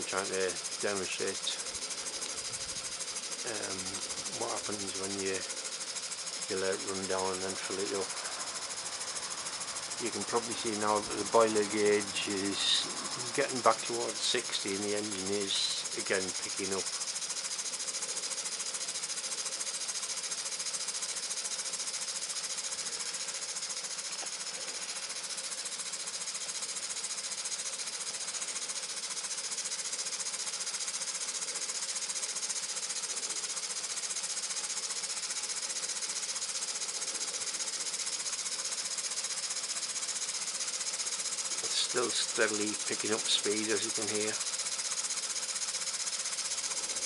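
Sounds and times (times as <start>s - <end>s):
steady steam hiss: 0.0s - 47.0s
steam engine mechanical chatter: 0.0s - 47.0s.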